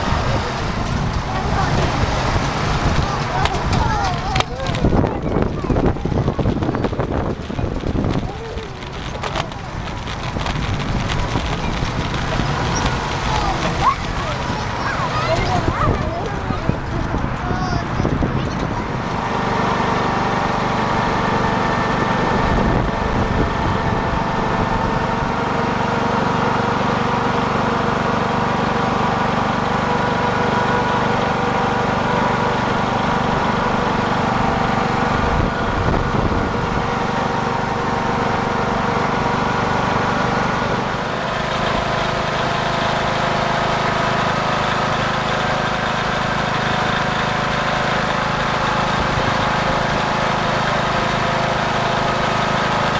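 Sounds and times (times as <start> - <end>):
small engine humming: 0.0 - 52.9.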